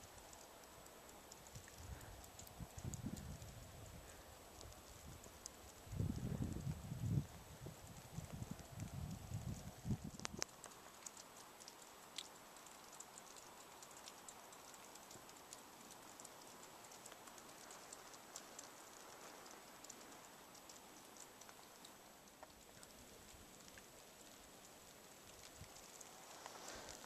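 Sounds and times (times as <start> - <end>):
faint hiss: 0.0 - 27.0
light irregular ticks: 0.0 - 27.0.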